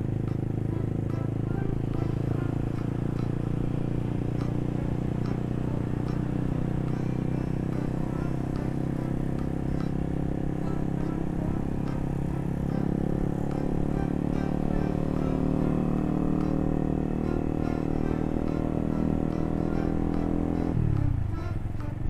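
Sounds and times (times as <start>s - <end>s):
motorcycle engine drone: 0.0s - 22.0s.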